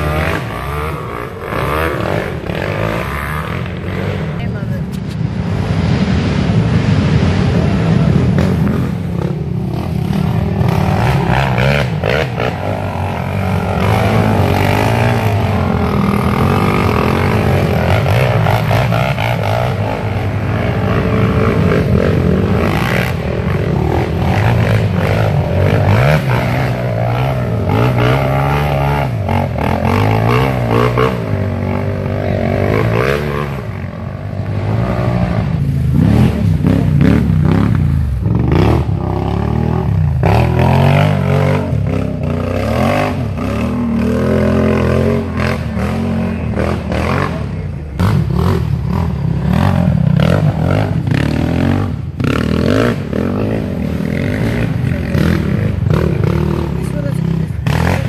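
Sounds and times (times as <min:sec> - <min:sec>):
quad engines revving: 0:00.0 - 0:58.0.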